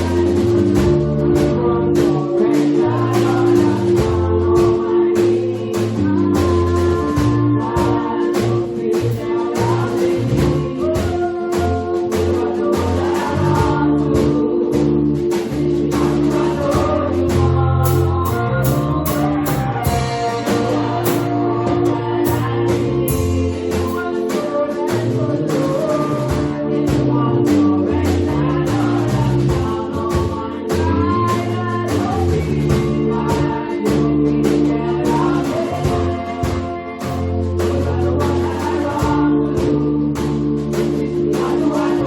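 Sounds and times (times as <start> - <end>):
bass line: 0.0 - 42.0
choir singing a hymn: 0.0 - 42.0
drum beats: 0.0 - 42.0
held chords: 0.0 - 42.0.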